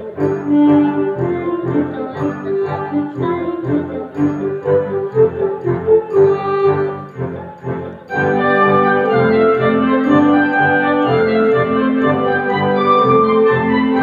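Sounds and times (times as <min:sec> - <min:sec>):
electronic keyboard ensemble: 0:00.0 - 0:14.0.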